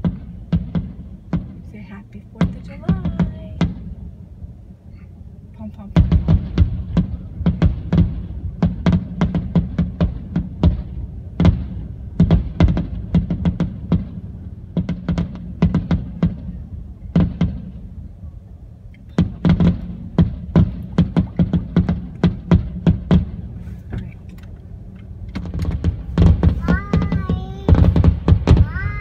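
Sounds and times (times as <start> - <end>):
fireworks bangs and crackles: 0.0 - 4.1, 5.6 - 18.3, 19.0 - 29.0
low rumble: 0.0 - 29.0.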